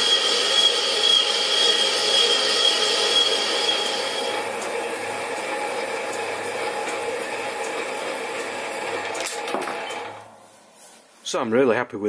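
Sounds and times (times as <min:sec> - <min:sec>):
lathe motor hum and cutting: 0:00.0 - 0:10.4.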